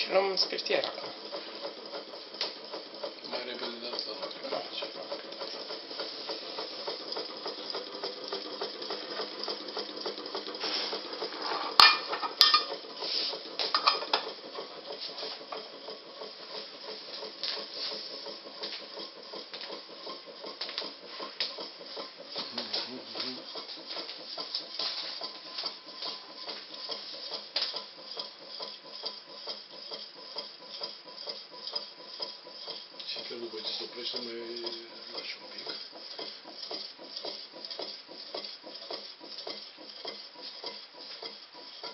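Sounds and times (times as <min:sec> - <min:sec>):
small engine ticking: 0:00.0 - 0:41.9.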